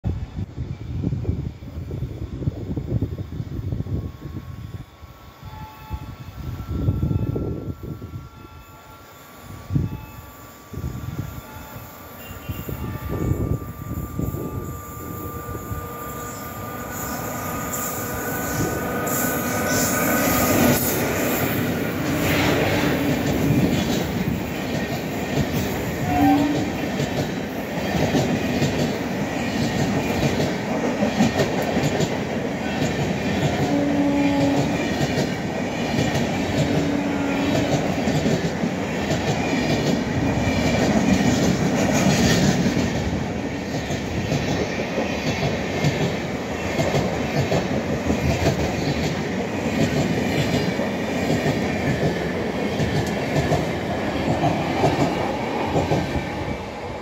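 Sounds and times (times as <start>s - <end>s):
passenger train passing at speed: 0.0s - 57.0s.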